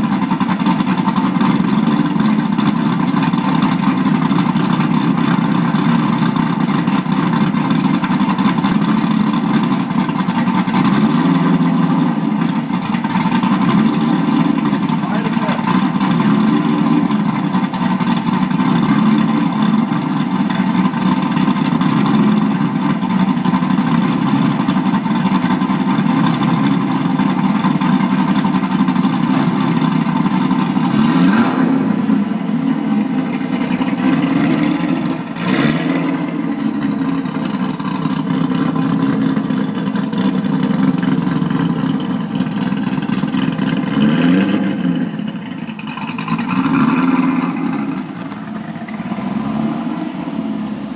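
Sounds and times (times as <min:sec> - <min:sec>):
car engine idling: 0:00.0 - 0:50.9
car engine revving: 0:00.0 - 0:50.9.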